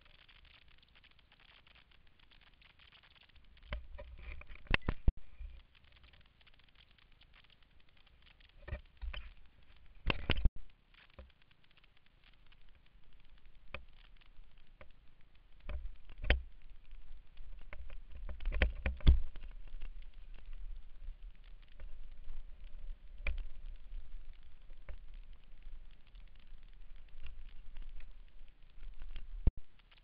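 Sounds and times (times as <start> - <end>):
bike tyres crackling through leaves: 0.0 - 30.0.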